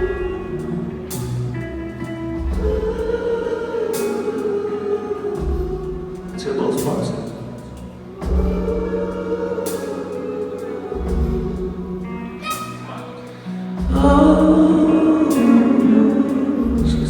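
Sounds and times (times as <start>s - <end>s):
rock band playing slow ballad: 0.0s - 17.0s
sung vocals: 0.0s - 17.0s.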